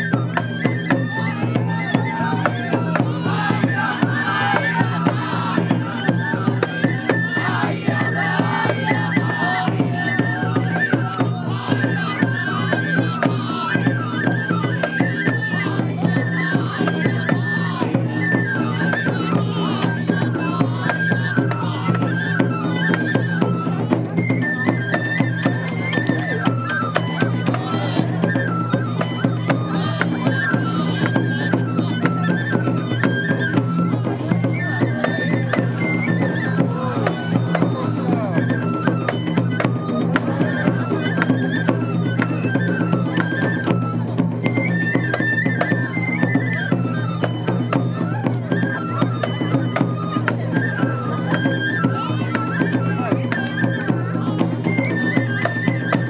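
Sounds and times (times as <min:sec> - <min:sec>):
bamboo flute melody: 0:00.0 - 0:56.0
drum beats: 0:00.0 - 0:56.0.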